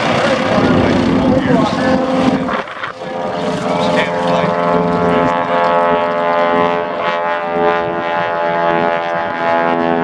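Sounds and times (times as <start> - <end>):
propeller plane engines droning: 0.0 - 10.0.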